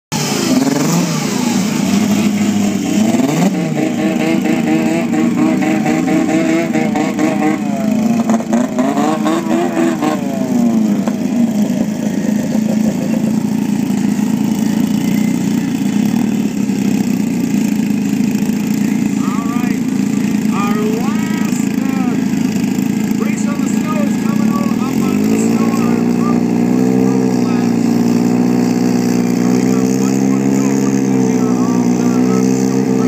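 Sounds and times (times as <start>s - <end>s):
snowmobile engines revving: 0.1s - 33.0s.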